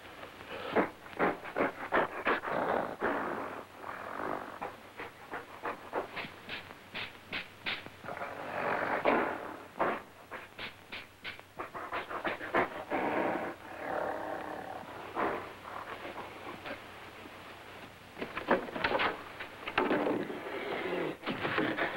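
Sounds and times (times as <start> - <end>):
gorilla panting and grunting: 0.5 - 16.8, 20.0 - 21.9.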